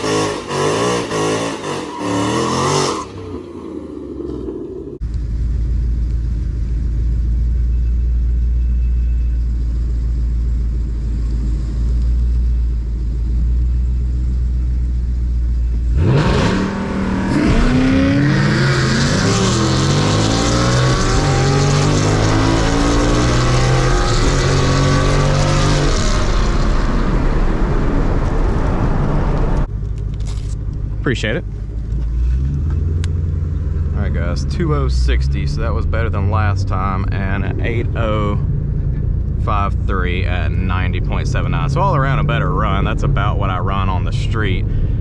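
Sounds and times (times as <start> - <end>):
car engine droning and revving: 0.0 - 45.0.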